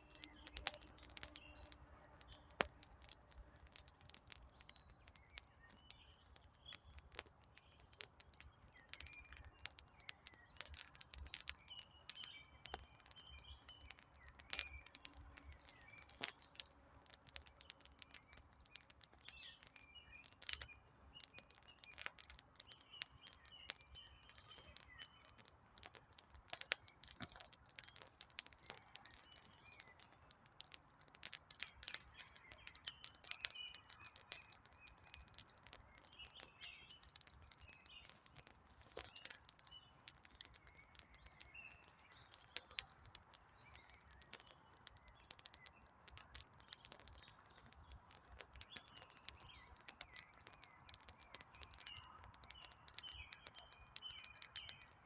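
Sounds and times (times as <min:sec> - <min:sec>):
small birds chirping: 0:00.0 - 0:55.0
wood campfire crackling and popping: 0:00.0 - 0:55.0.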